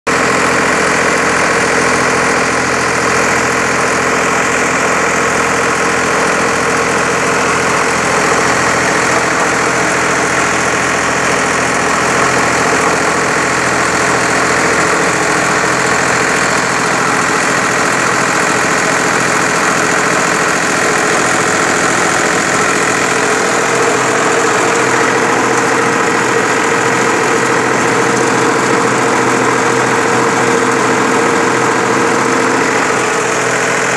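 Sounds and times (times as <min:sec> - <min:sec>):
diesel pump engine running: 0:00.1 - 0:33.9.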